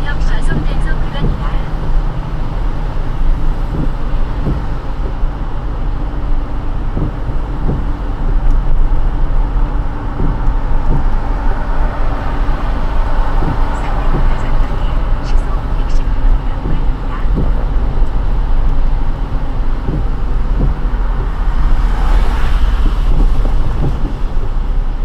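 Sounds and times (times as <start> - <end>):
car driving on wet road: 0.0 - 25.0.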